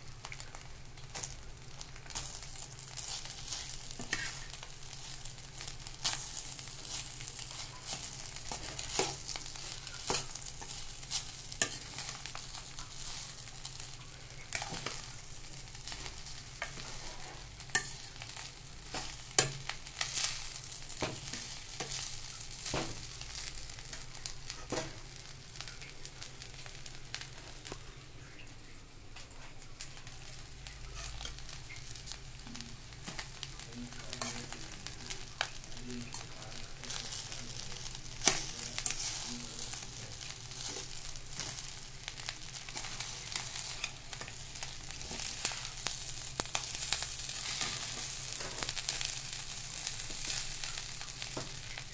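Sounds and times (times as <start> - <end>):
frying sizzle: 0.0 - 51.9.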